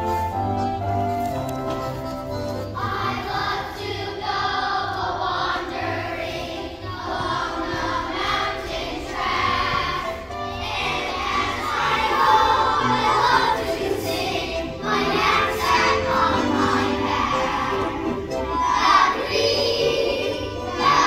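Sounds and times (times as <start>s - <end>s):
instrumental accompaniment: 0.0s - 21.0s
children's choir singing: 1.9s - 21.0s.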